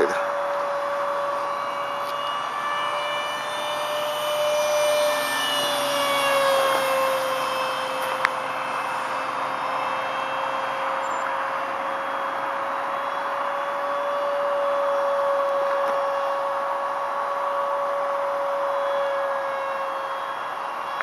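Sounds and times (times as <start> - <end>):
electric jet fan whining: 0.0 - 21.0.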